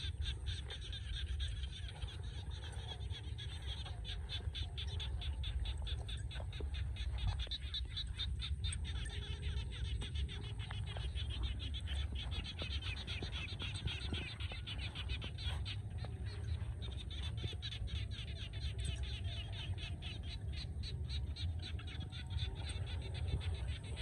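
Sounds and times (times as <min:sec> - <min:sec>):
chorus of chirping calls: 0:00.0 - 0:24.0
steady low rumble: 0:00.0 - 0:24.0.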